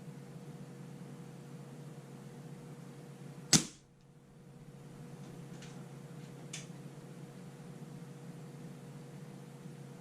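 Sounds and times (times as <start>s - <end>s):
background hum and hiss: 0.0s - 10.0s
faint constant tone: 0.0s - 10.0s.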